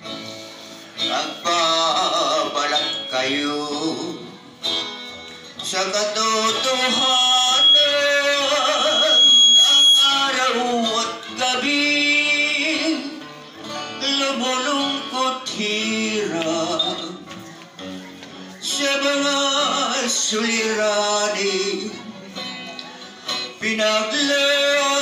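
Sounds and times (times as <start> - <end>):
acoustic guitar strumming: 0.0 - 25.0
man singing into microphone: 0.9 - 4.5, 5.6 - 17.6, 18.3 - 25.0.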